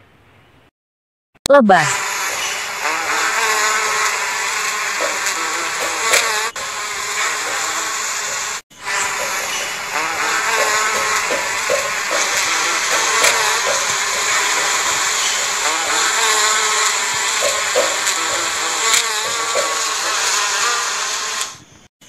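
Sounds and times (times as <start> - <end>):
bees buzzing: 1.9 - 21.7.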